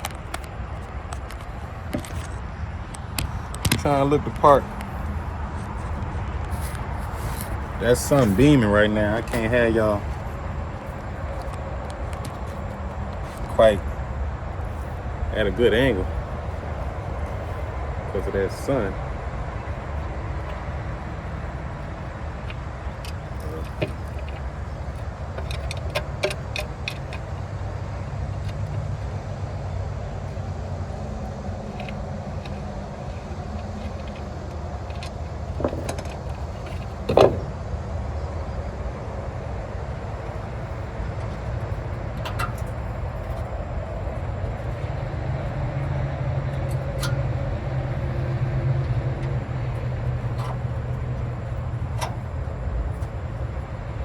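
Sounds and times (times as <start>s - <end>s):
motor vehicle rumble: 0.0s - 54.0s.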